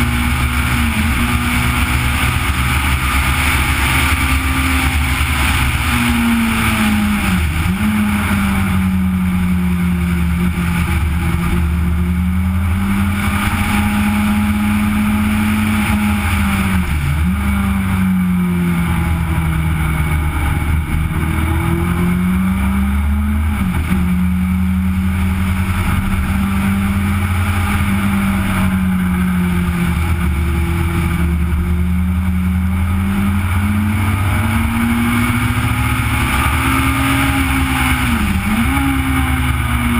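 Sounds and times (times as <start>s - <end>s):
race car engine at high revs: 0.0s - 39.9s
wind and road noise: 0.0s - 39.9s.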